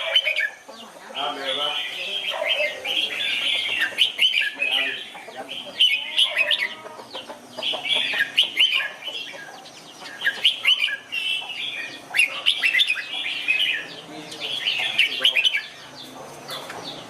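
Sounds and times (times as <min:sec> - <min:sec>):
bulbul chirping song: 0:00.0 - 0:17.0.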